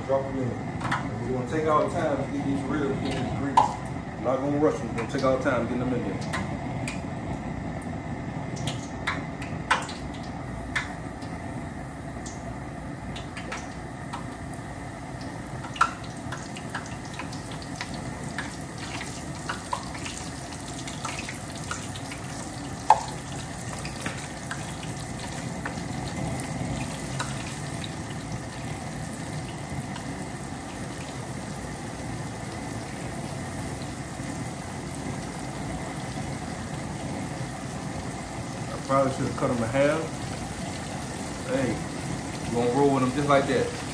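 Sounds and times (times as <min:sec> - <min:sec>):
deep-frying bubbling sizzle: 0:00.0 - 0:43.9.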